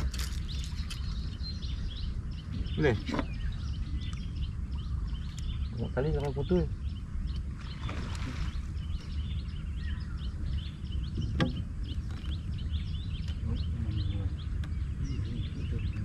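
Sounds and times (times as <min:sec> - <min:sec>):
high bird chirps: 0:00.0 - 0:16.0
low steady rumble: 0:00.0 - 0:16.0.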